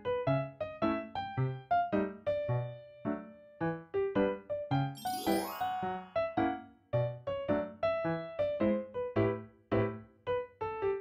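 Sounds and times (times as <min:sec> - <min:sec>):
light keyboard tune: 0:00.0 - 0:11.0.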